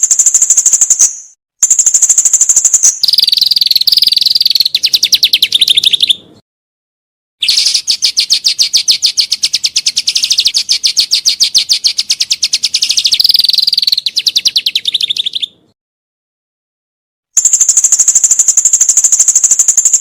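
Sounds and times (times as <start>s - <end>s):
songbird trilling: 0.0s - 6.4s, 7.4s - 15.7s, 17.4s - 20.0s.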